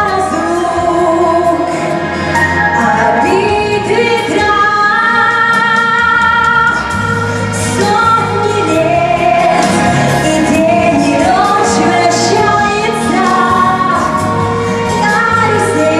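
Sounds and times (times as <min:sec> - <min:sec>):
instrumental backing with bass: 0:00.0 - 0:15.9.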